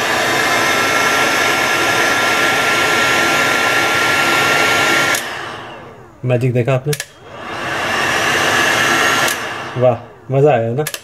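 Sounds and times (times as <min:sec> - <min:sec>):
heat gun blowing hot air: 0:00.0 - 0:06.2, 0:07.0 - 0:11.0
faint motor whine: 0:00.0 - 0:11.0.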